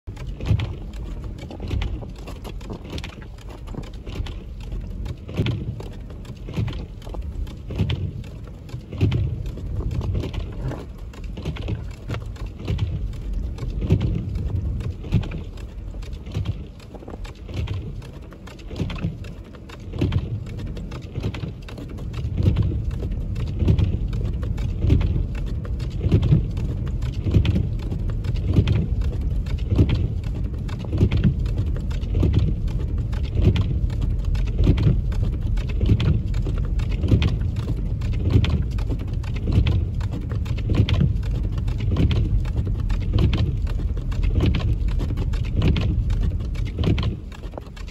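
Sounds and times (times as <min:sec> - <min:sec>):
windshield wipers knocking: 0:00.1 - 0:47.9.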